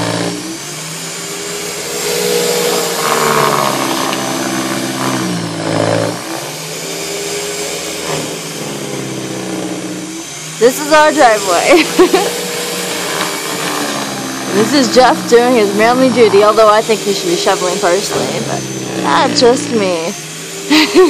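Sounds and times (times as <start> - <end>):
snow thrower motor whine: 0.0 - 21.0.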